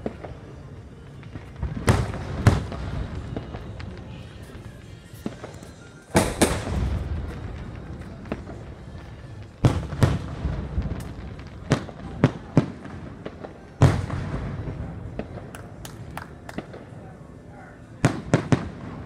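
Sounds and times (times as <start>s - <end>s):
fireworks bangs with echo: 0.0s - 17.1s, 18.0s - 19.0s.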